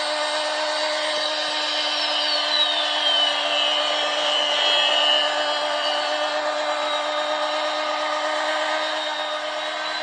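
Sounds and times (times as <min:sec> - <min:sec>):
high whistle: 0:00.0 - 0:10.0
toy airplane motor whirring: 0:00.0 - 0:10.0.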